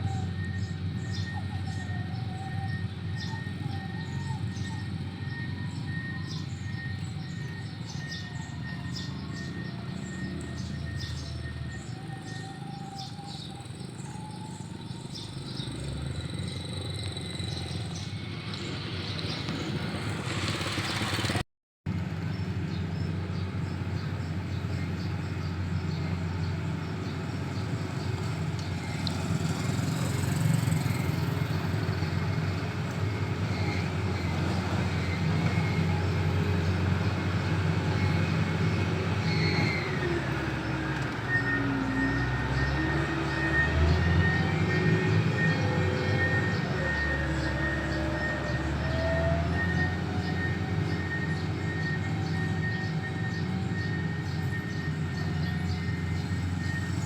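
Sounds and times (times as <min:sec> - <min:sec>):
heavy machinery engines running: 0:00.0 - 0:57.0.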